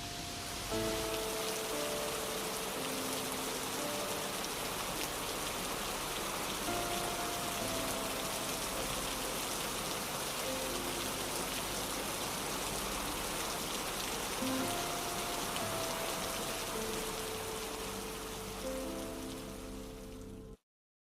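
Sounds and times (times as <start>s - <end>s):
rain-like hiss: 0.0s - 20.6s
soft slow music notes: 0.0s - 20.6s.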